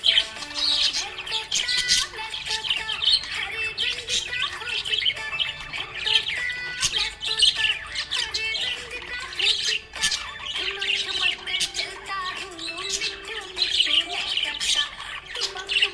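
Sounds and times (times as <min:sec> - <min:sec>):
budgerigars chirping and squawking: 0:00.0 - 0:15.9.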